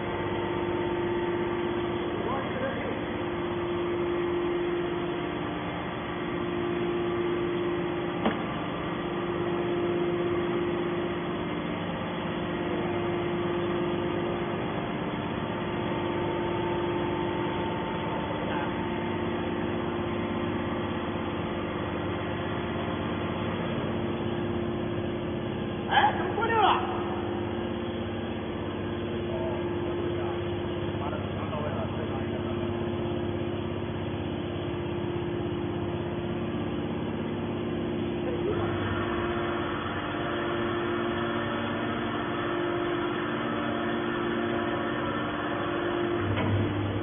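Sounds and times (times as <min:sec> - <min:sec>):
hydraulic power unit humming: 0:00.0 - 0:47.0.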